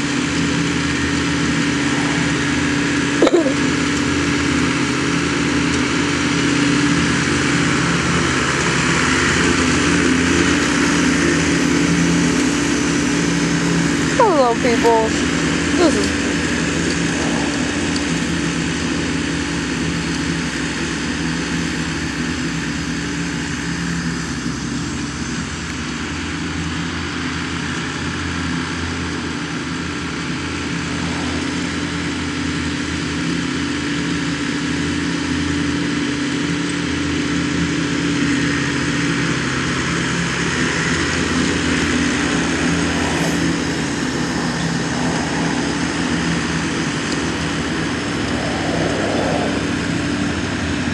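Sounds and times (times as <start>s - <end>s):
mower engine droning: 0.0s - 50.9s.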